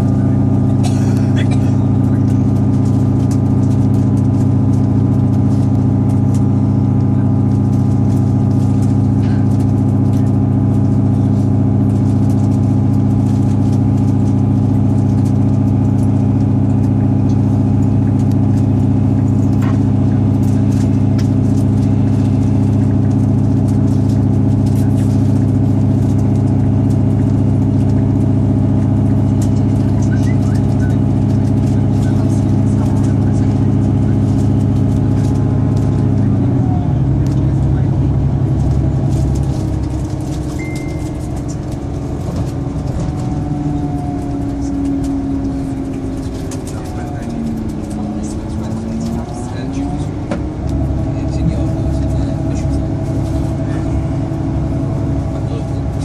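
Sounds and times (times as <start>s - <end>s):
train running drone: 0.0s - 56.0s.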